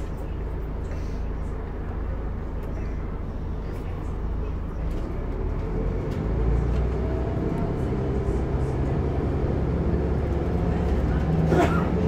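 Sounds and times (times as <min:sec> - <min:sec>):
bus engine drone: 0:00.0 - 0:12.0
road and body noise: 0:00.0 - 0:12.0.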